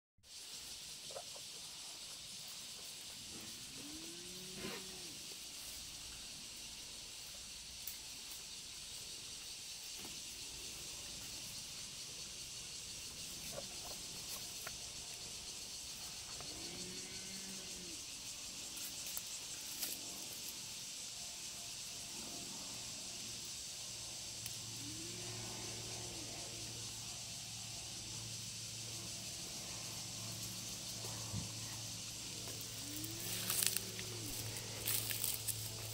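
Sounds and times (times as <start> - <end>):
high-pitched insect drone: 0.3 - 35.9.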